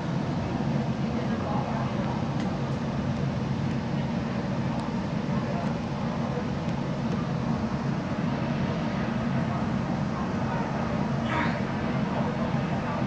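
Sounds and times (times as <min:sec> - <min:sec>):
metro train rumbling in tunnel: 0:00.0 - 0:13.0.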